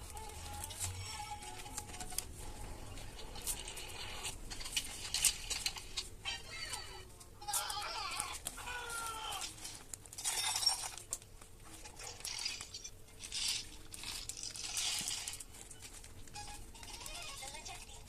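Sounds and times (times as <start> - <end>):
plastic wrapping crinkling: 0.0 - 6.2, 7.5 - 18.0.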